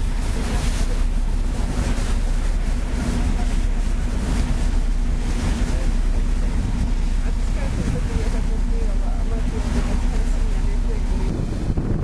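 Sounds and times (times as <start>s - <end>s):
ferry engines humming: 0.0s - 12.0s
water rushing along hull: 0.0s - 12.0s
wind buffeting microphone: 0.0s - 12.0s.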